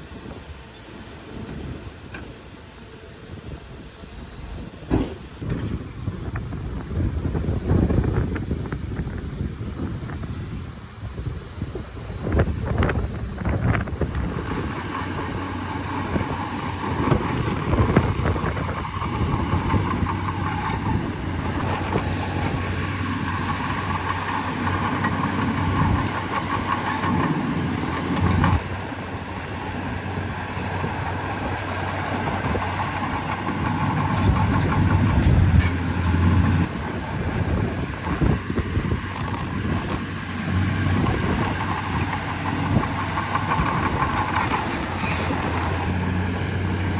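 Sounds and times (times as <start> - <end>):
heavy diesel machinery running: 0.0 - 46.9.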